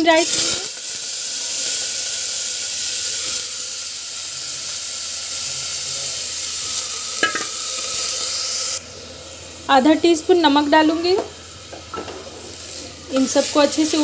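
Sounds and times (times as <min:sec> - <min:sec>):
rice sizzling in hot oil: 0:00.0 - 0:14.0.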